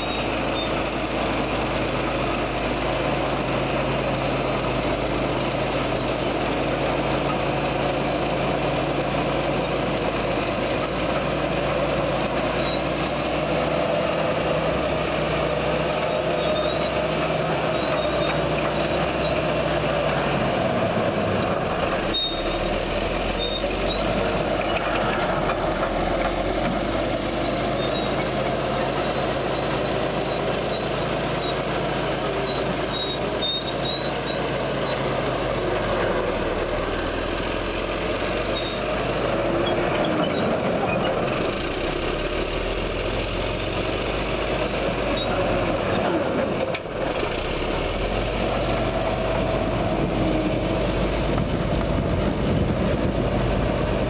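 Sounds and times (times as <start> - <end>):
bulldozer diesel engine running hard: 0.0 - 54.0.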